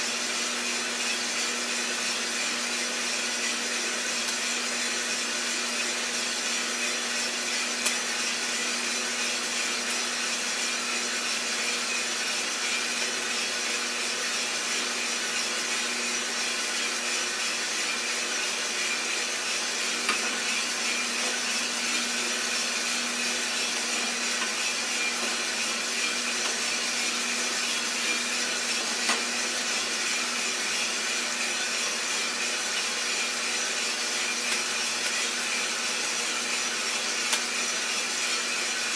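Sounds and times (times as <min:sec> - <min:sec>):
roaster motor hum: 0:00.0 - 0:38.9.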